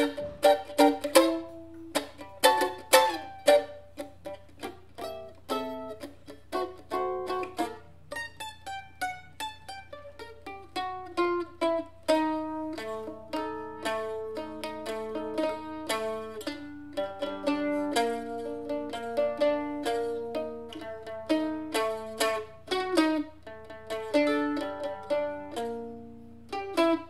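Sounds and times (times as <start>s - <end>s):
mandolin playing: 0.0s - 27.0s.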